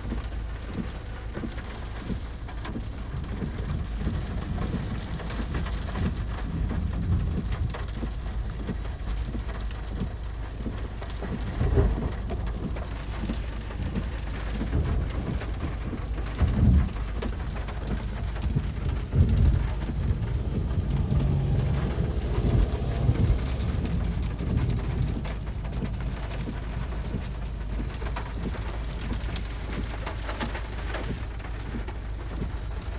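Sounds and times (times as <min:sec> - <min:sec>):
steady rain: 0:00.0 - 0:32.9
thunder rolling: 0:03.5 - 0:30.3.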